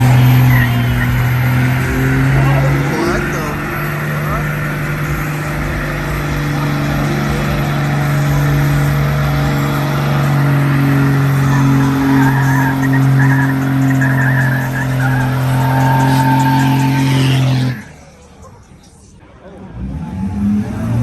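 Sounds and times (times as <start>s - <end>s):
tyres squealing: 0.0s - 19.2s
engine at high revs: 0.0s - 21.0s.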